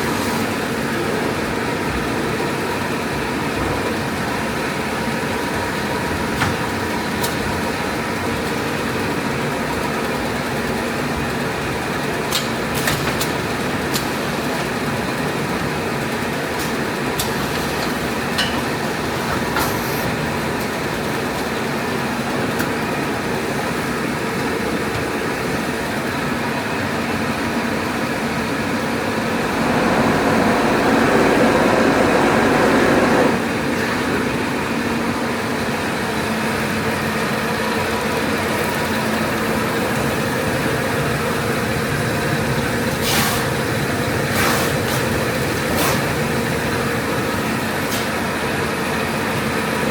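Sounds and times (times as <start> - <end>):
rewinder machine running: 0.0 - 49.9.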